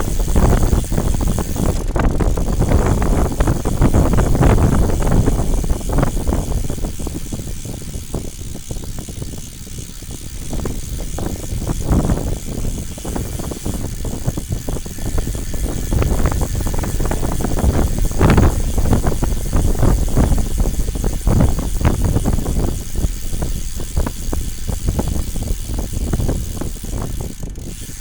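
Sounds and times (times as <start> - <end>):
motor vehicle rumble: 0.0 - 28.0
wind buffeting microphone: 0.0 - 28.0.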